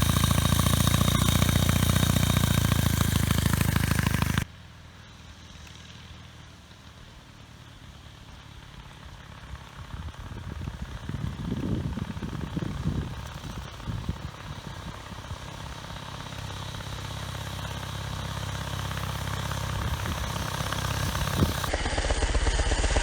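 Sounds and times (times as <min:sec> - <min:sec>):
motorcycle engine running: 0:00.0 - 0:04.5, 0:08.4 - 0:23.0.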